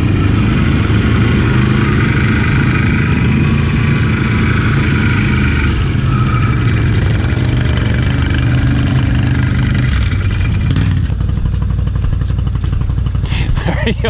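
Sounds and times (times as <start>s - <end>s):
atv engine running and idling: 0.0s - 14.0s.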